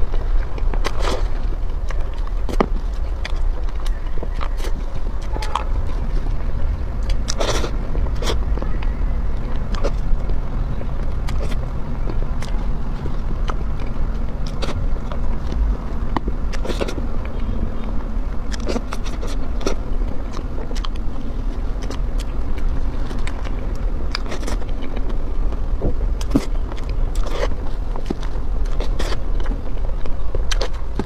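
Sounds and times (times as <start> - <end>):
steady low rumble: 0.0 - 31.0
wet chewing mouth sounds: 0.0 - 31.0.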